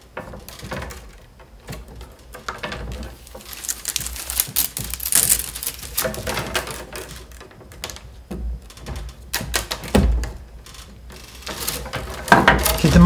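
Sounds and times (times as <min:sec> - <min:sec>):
willow rods clicking and creaking: 0:00.0 - 0:13.0.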